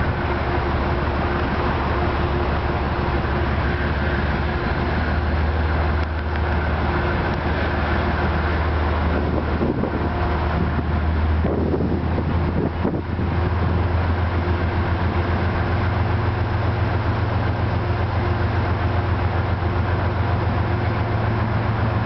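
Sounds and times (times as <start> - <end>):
diesel locomotive engine droning: 0.0 - 22.0.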